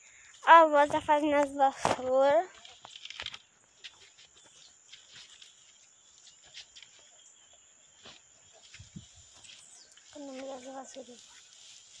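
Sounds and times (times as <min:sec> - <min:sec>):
leafy stems rustling: 0:00.4 - 0:07.2, 0:07.9 - 0:12.0.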